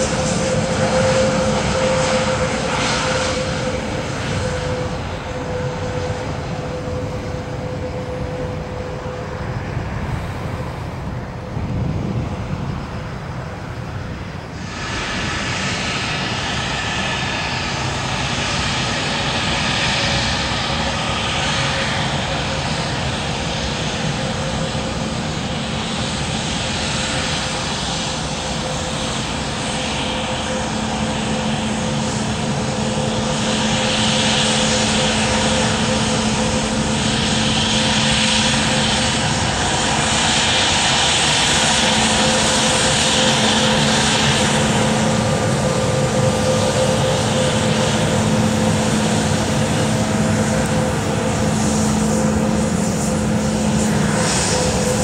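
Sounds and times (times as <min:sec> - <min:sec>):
jet engines humming and whining: 0:00.0 - 0:55.0.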